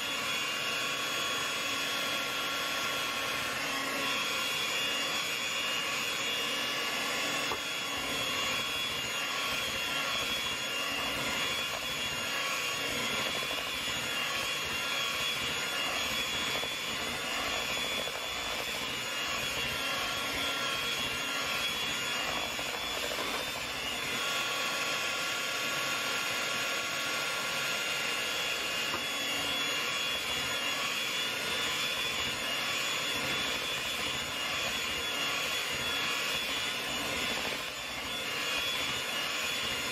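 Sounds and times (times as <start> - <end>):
electric hand mixer whine: 0.0 - 39.9.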